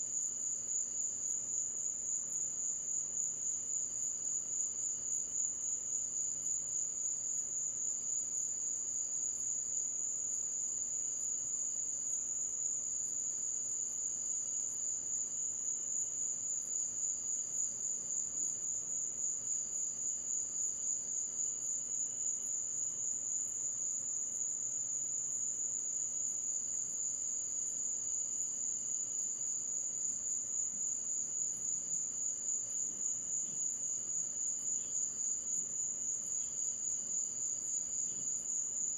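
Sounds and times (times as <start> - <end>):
faint insect trill: 0.0 - 38.9.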